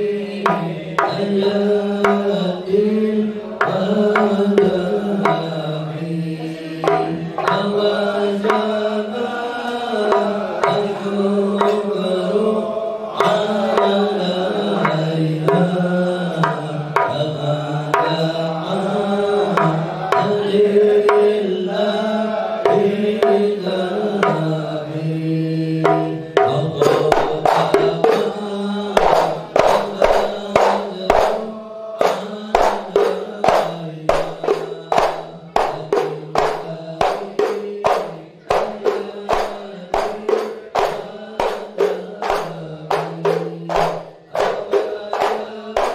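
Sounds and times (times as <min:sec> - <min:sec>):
man singing into a microphone: 0:00.0 - 0:45.9
voices chanting along: 0:00.0 - 0:45.9
sharp percussive strikes: 0:00.2 - 0:02.9, 0:03.6 - 0:12.4, 0:13.1 - 0:21.9, 0:22.6 - 0:24.9, 0:25.6 - 0:45.9
hand percussion: 0:00.3 - 0:02.8, 0:03.6 - 0:12.4, 0:13.1 - 0:21.9, 0:22.6 - 0:45.9.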